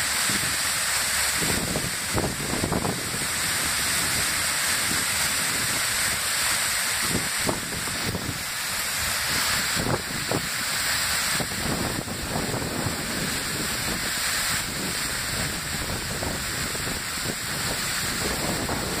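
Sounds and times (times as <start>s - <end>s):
waterfall pouring into pool: 0.0s - 19.0s.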